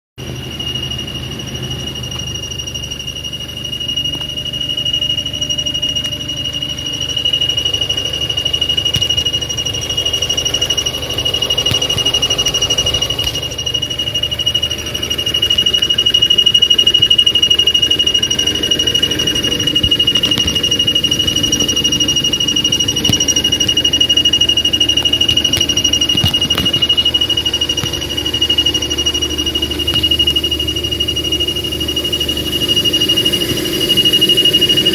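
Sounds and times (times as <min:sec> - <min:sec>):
high-pitched whistle: 0:00.2 - 0:34.9
low hum: 0:00.2 - 0:34.9.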